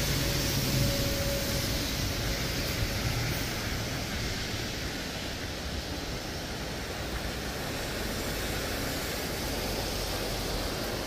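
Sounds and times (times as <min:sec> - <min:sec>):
low rumble of road traffic: 0:00.0 - 0:11.0
stream rushing: 0:00.0 - 0:11.0.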